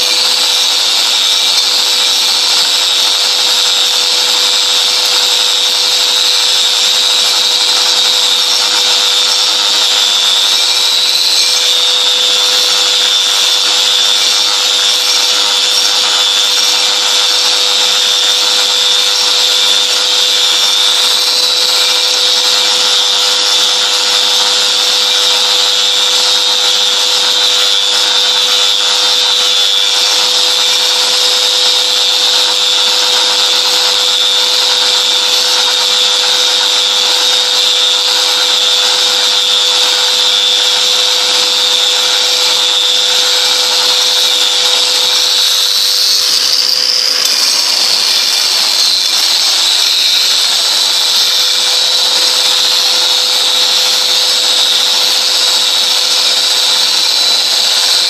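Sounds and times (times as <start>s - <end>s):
angle grinder grinding concrete: 0.0s - 58.0s.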